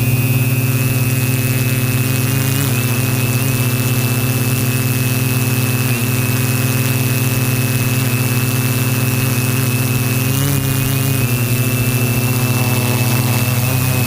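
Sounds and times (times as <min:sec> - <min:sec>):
drone motors humming and whining: 0:00.0 - 0:14.0.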